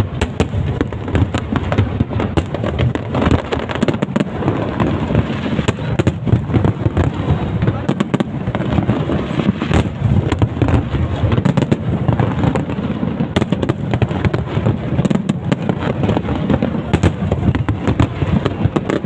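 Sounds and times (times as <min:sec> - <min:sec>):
fireworks cracks and bangs: 0:00.0 - 0:19.0.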